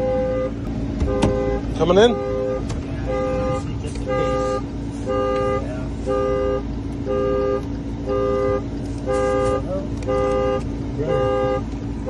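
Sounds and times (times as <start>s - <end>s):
two-note car horn honking: 0.0s - 11.8s.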